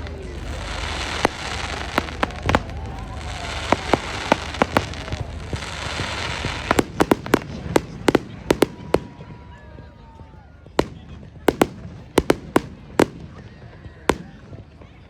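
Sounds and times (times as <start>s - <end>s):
fireworks crackling hiss: 0.0s - 10.2s, 10.8s - 14.9s
fireworks bangs and pops: 0.0s - 15.0s.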